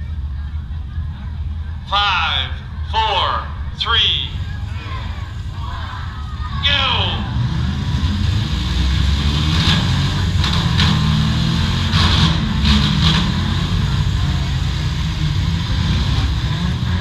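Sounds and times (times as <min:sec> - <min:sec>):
car engines running hard: 0:00.0 - 0:17.0
cars crashing: 0:00.0 - 0:17.0.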